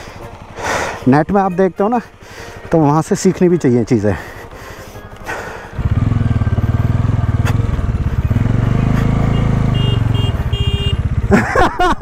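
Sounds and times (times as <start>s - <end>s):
motorcycle engine idling: 0.0s - 11.9s.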